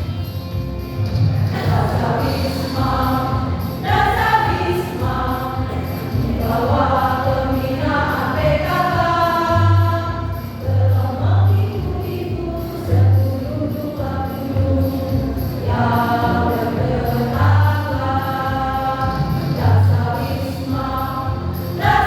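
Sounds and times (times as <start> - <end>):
low bass accompaniment: 0.0 - 22.0
choir singing: 1.5 - 22.0.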